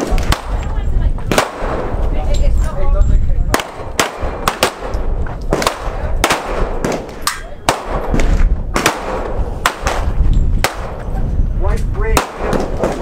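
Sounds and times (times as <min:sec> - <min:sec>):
gunshots: 0:00.0 - 0:02.1, 0:03.5 - 0:11.1, 0:12.1 - 0:13.0.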